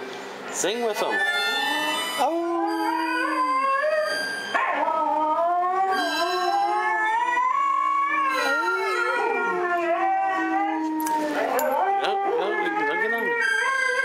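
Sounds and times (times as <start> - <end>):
dogs howling on television: 1.0 - 14.0.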